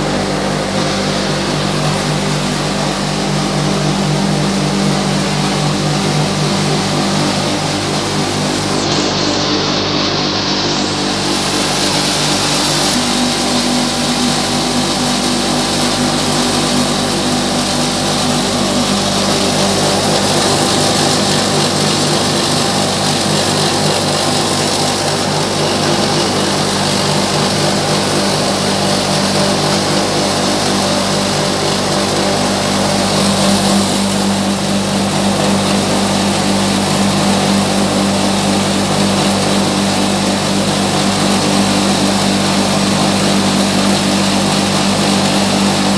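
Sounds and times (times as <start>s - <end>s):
grain mill machine hum: 0.0s - 45.9s.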